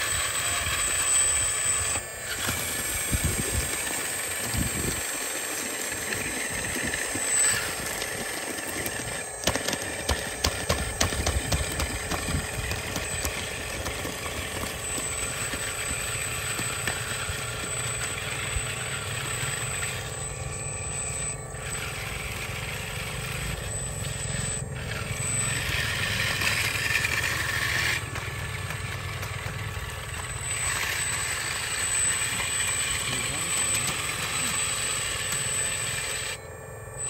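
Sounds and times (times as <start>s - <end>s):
small electric motors whirring: 0.0s - 37.0s.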